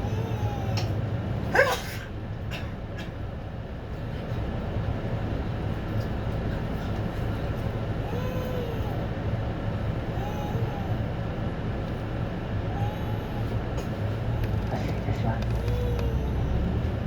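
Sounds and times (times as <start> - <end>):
bus engine and road noise: 0.0 - 17.0.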